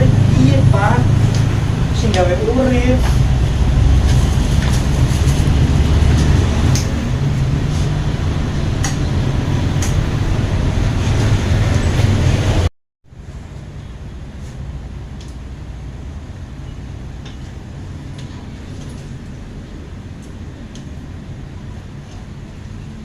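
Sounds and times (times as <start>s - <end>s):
motorcycle engine rumbling: 0.0s - 23.0s
quieter steady engine: 0.0s - 23.0s.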